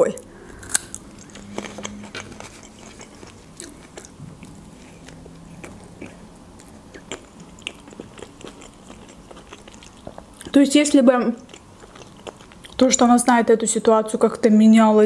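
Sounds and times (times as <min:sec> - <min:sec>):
chewing soft bread: 0:00.5 - 0:13.0.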